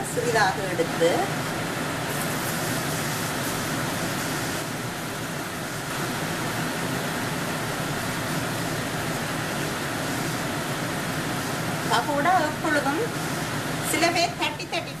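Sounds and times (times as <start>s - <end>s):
dough deep-frying in hot oil: 0.0s - 15.0s.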